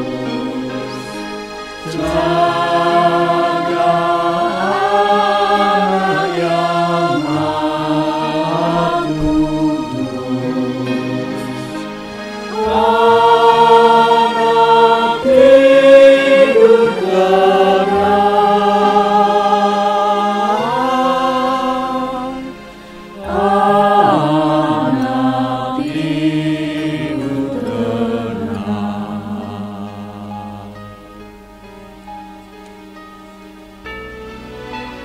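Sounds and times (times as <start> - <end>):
mixed choir singing in harmony: 0.0 - 31.5.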